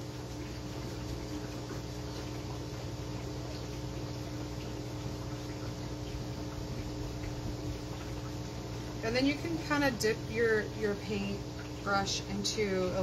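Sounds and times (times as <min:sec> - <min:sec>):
electrical hum with tones: 0:00.0 - 0:13.0.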